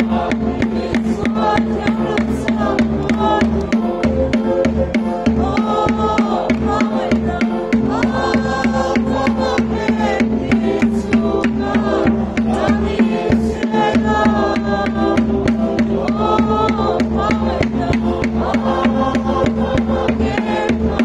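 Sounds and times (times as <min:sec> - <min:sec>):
people singing a hymn: 0:00.0 - 0:21.0
quick steady drumbeat: 0:00.0 - 0:21.0.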